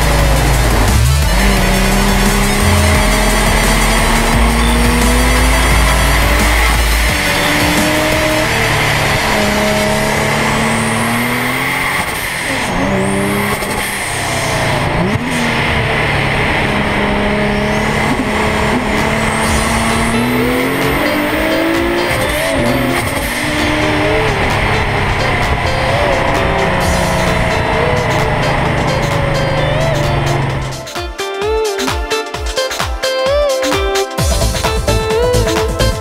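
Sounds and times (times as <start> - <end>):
car engine accelerating: 0.0 - 30.9
road and wind noise: 0.0 - 30.9
steady high whine: 0.0 - 30.9.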